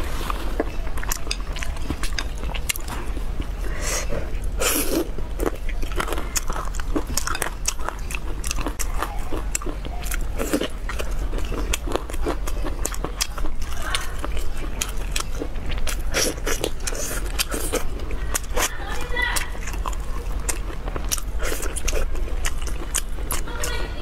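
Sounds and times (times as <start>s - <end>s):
person chewing and smacking: 0.0s - 23.8s.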